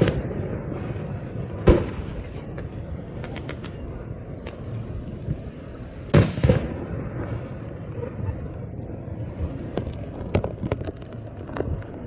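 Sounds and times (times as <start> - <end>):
firework shells booming: 0.0 - 12.0
small firework pops: 0.0 - 12.0.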